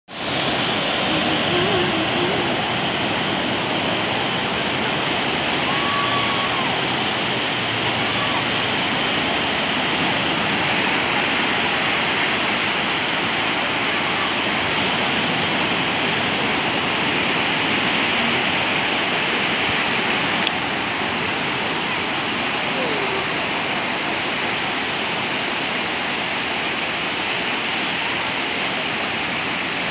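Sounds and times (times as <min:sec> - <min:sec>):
surf breaking on a beach: 0:00.1 - 0:29.9.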